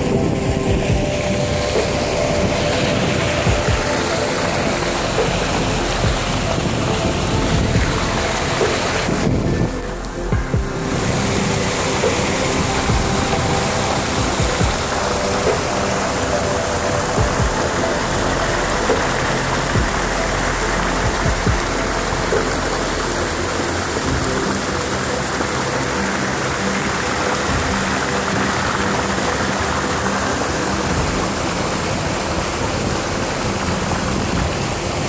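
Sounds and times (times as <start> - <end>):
background music: 0.0 - 35.0
water rushing and splashing: 0.0 - 35.0.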